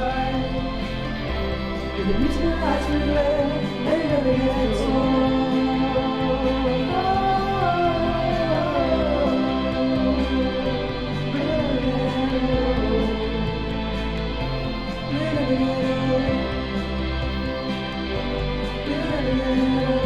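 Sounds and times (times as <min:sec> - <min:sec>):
gliding melody: 0:00.0 - 0:20.0
slow music with held bass notes: 0:00.0 - 0:20.0.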